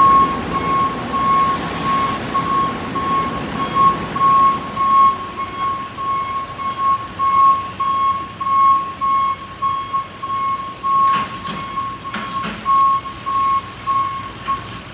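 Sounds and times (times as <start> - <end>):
back-up alarm beeping: 0.0 - 14.8.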